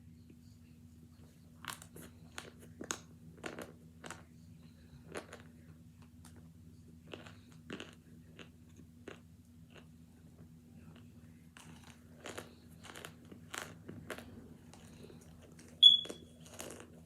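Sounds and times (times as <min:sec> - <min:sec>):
steady low hum: 0:00.0 - 0:17.0
crunching and chewing: 0:01.5 - 0:17.0.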